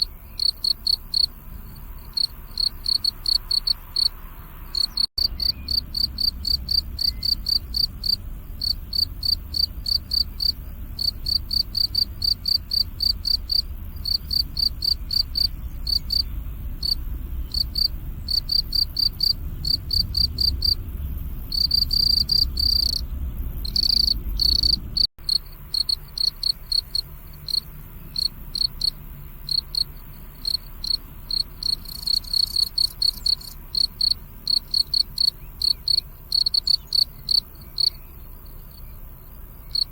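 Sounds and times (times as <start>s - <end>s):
crickets chirping: 0.0s - 39.9s
faint low rumble: 0.0s - 39.9s.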